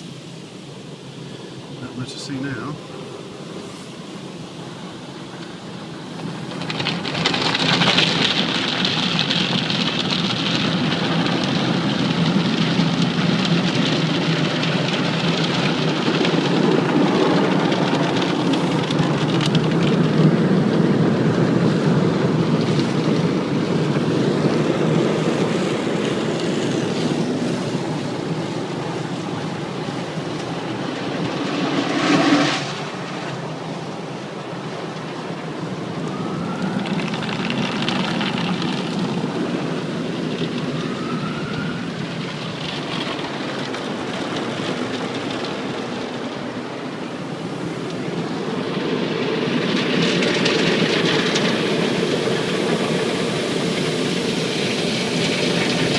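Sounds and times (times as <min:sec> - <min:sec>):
car wash water spray: 0:00.0 - 0:55.9.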